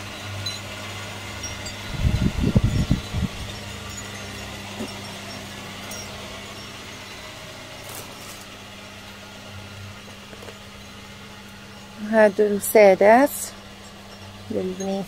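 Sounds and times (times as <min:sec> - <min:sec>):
low hum of shop interior: 0:00.0 - 0:15.0.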